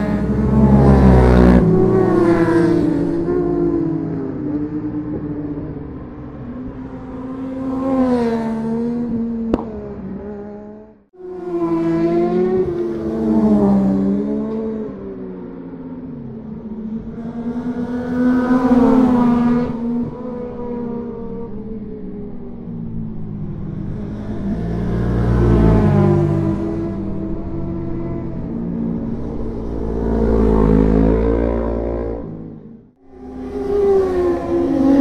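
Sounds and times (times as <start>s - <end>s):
motorcycles passing at speed: 0.0s - 35.0s.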